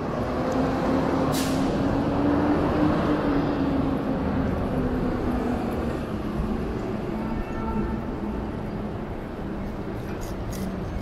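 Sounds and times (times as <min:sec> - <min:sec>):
city street traffic: 0:00.0 - 0:11.0
heavy vehicle rumbling: 0:00.0 - 0:11.0.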